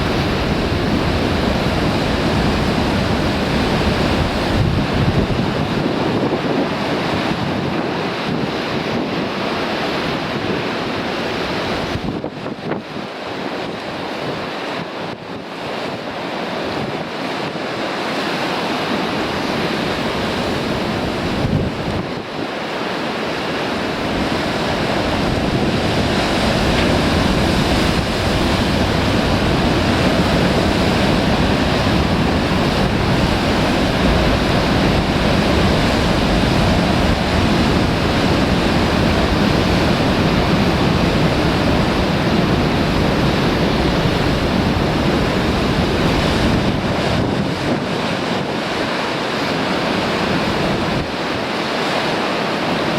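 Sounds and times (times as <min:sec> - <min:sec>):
wind buffeting microphone: 0:00.0 - 0:17.8, 0:19.1 - 0:22.5, 0:23.3 - 0:51.4
surf breaking on rocks: 0:00.0 - 0:52.9.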